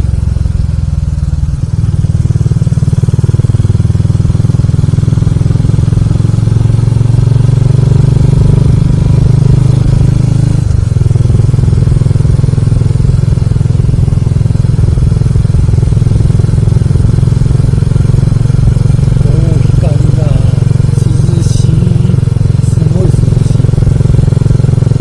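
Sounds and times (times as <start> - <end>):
motorcycle engine drone: 0.0 - 25.0.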